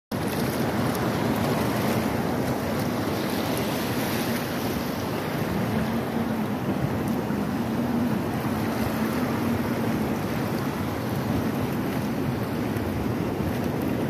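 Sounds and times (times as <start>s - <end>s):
surf rushing in shallow water: 0.1s - 14.0s
wind buffeting microphone: 0.1s - 14.0s.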